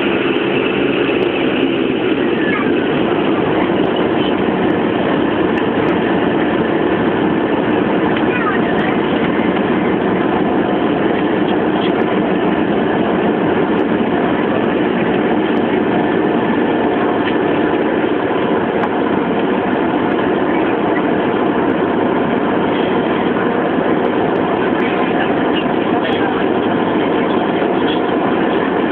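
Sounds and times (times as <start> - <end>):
hovercraft engines droning: 0.0 - 28.9.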